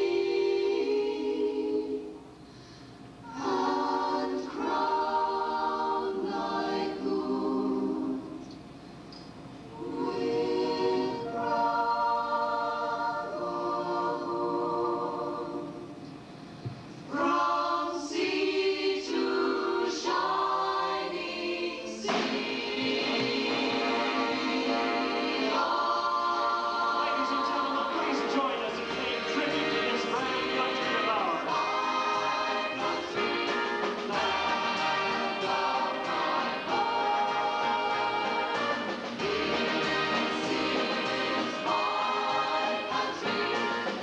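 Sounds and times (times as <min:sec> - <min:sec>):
choir singing held chords: 0:00.0 - 0:44.0.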